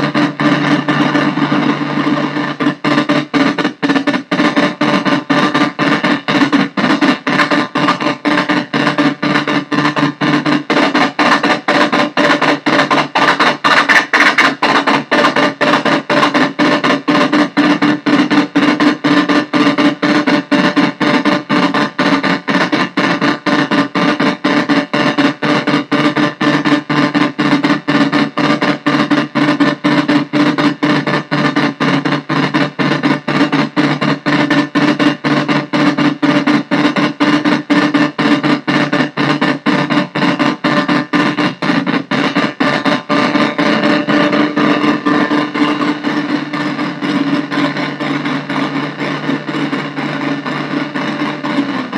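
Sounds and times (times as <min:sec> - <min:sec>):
harsh pulsing synthesizer drone: 0:00.0 - 0:51.9.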